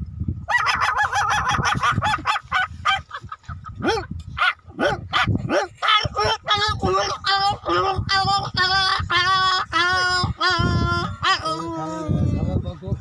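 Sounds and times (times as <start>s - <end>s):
man imitating dog yelps: 0.5s - 3.0s, 3.8s - 12.0s.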